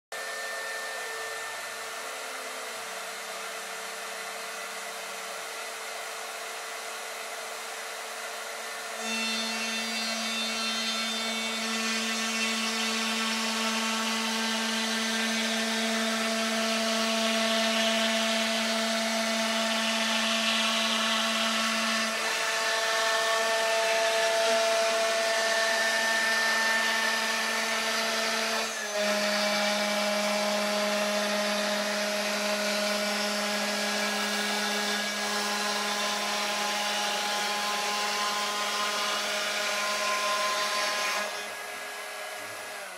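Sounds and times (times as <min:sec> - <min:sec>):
router motor whine: 0:00.1 - 0:42.9
bit cutting wood: 0:00.2 - 0:42.9.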